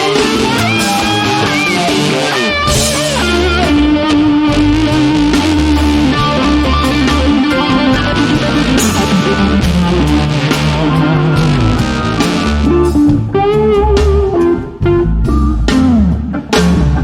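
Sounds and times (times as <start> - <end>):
electric guitar bending notes: 0.0 - 17.0
heavy bass: 0.0 - 17.0
rock band playing: 0.0 - 17.0.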